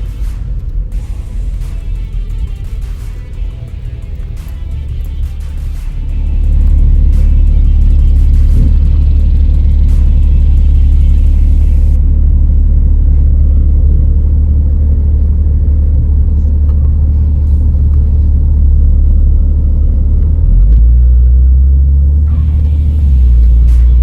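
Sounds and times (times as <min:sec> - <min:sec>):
off-road vehicle rumbling: 0:00.0 - 0:24.0.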